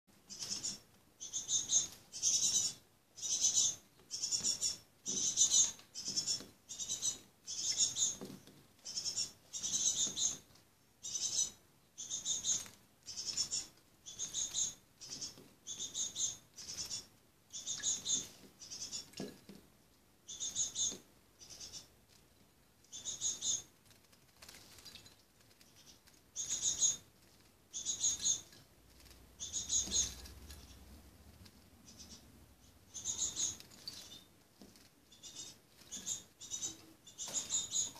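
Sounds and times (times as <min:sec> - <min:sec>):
fledgling birds chirping: 0:00.2 - 0:19.2, 0:20.2 - 0:22.0, 0:22.9 - 0:23.7, 0:25.6 - 0:27.1, 0:27.7 - 0:37.9.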